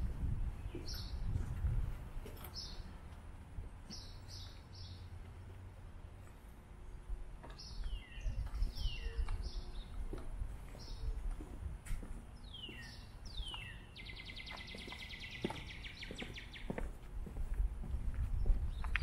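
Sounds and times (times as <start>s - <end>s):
small birds chirping: 0.5s - 1.7s, 2.4s - 3.0s, 3.7s - 5.7s, 6.9s - 19.0s.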